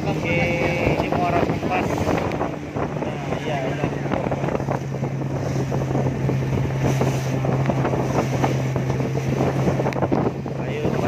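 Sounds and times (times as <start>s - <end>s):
boat engine running: 0.0s - 11.0s
water rushing along hull: 0.0s - 11.0s
wind buffeting microphone: 0.0s - 11.0s.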